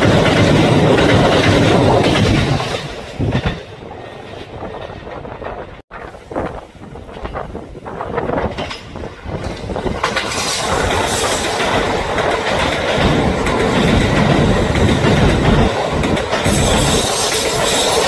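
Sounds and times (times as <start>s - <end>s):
electric train wheels rumbling: 0.0s - 18.0s.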